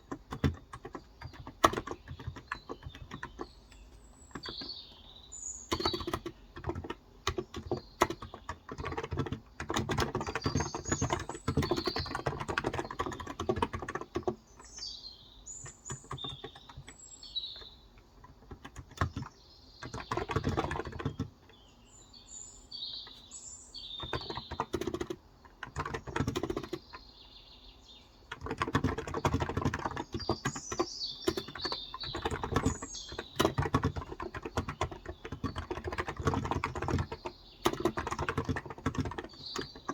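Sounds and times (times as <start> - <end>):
typing on a keyboard: 0.0 - 5.1, 5.7 - 14.9, 15.6 - 17.0, 17.6 - 21.6, 23.9 - 27.0, 28.3 - 39.9
birds chirping: 0.0 - 39.9.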